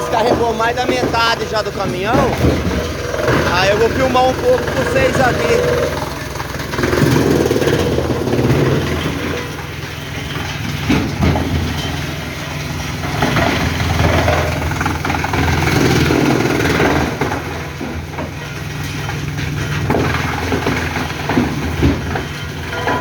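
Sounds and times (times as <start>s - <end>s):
heavy engine running: 0.0s - 23.0s.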